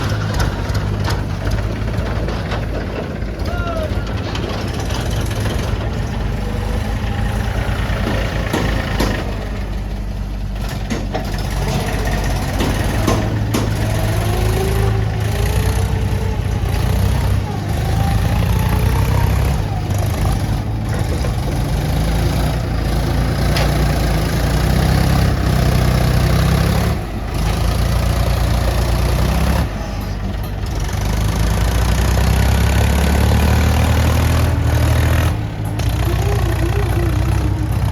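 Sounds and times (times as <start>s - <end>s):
diesel tractor engine under load: 0.0s - 37.9s.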